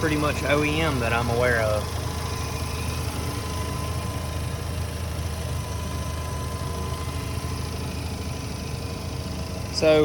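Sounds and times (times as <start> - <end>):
rotary engine idling: 0.0 - 10.0
thin steady whine: 0.0 - 10.0.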